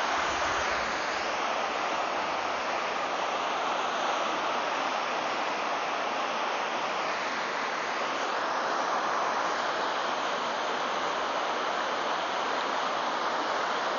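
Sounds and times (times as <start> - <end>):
whitewater rushing: 0.0 - 13.9.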